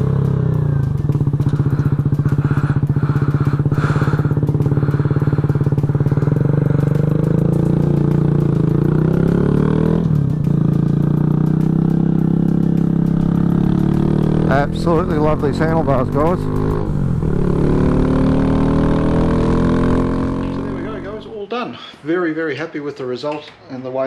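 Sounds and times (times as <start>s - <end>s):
motorcycle engine accelerating: 0.0s - 21.4s.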